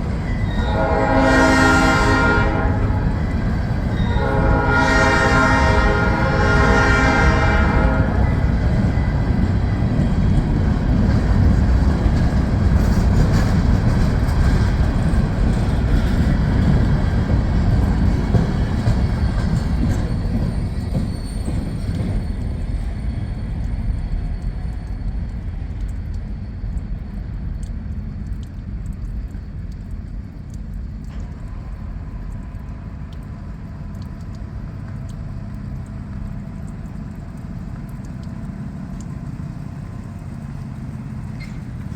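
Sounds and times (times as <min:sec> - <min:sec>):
freight train rumbling past: 0:00.0 - 0:27.5, 0:31.1 - 0:41.9.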